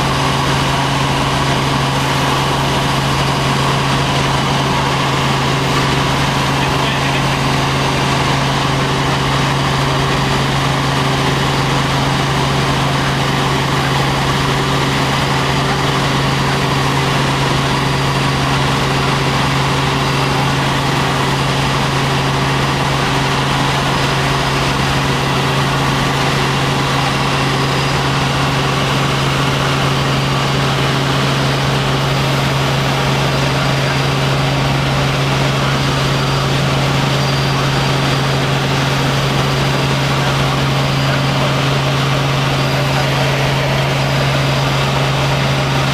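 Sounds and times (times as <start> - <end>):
helicopter engine and rotor noise: 0.0 - 45.9.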